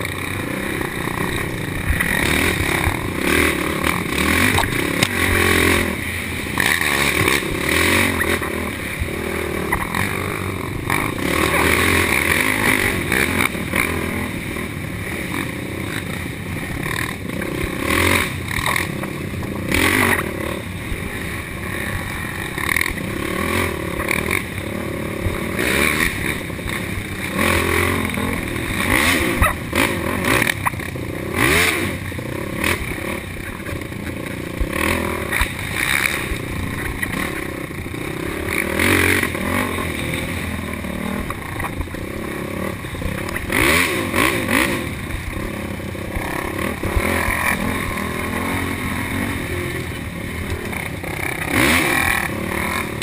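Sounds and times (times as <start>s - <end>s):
knocks and rattles over rough trail: 0.0s - 53.0s
quad engines revving: 0.0s - 53.0s.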